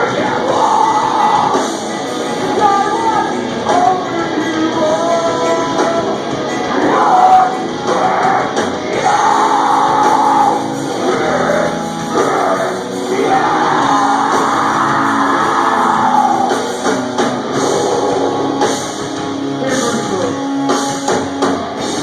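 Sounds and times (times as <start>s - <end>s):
loud vocals: 0.0s - 19.0s
metalcore band playing live: 0.0s - 22.0s.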